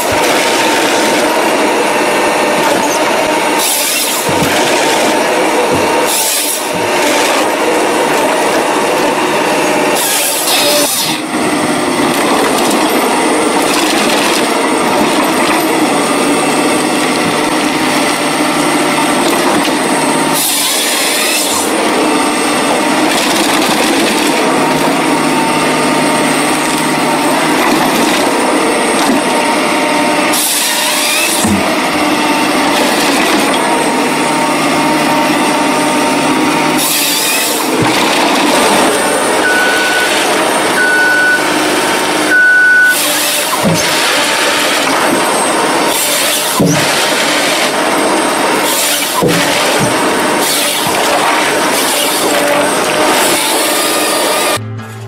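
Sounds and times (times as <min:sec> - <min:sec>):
diesel engine and hydraulics: 0:00.0 - 0:55.0.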